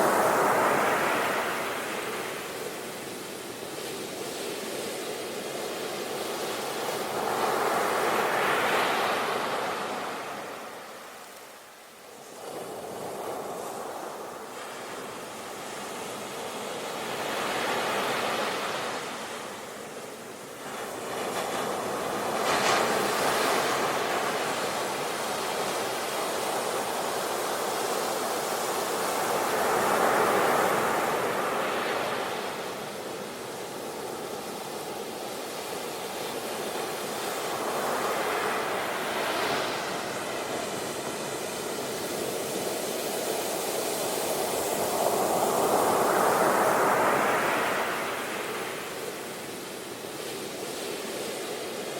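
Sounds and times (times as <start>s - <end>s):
sea waves breaking on shore: 0.0s - 51.9s.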